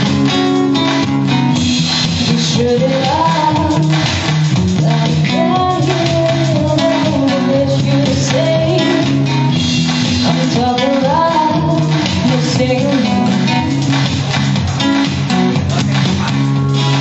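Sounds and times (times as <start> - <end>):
guitar trio playing: 0.0 - 17.0.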